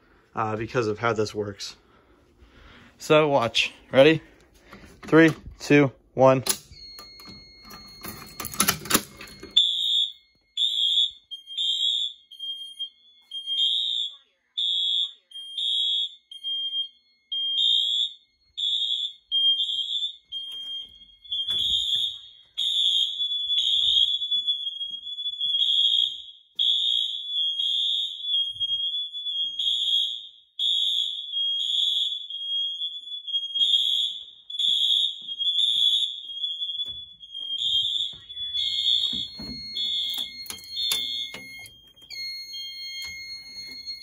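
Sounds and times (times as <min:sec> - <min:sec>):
smoke alarms beeping: 0:00.0 - 0:44.0.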